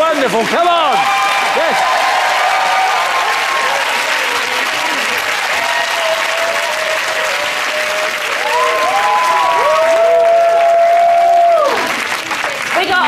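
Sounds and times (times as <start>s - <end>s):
studio audience applauding: 0.0s - 13.0s
audience whooping: 1.0s - 12.2s.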